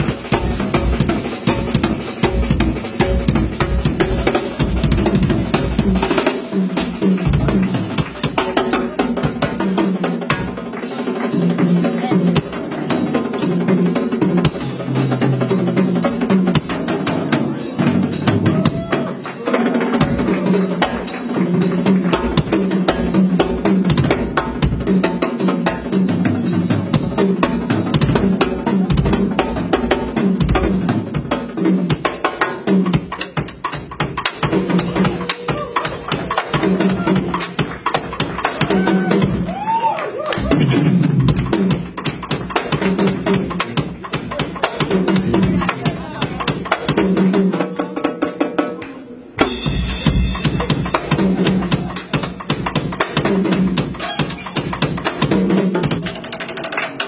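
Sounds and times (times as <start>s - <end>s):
band music: 0.0s - 57.0s
drum kit playing fast rhythm: 0.0s - 57.0s.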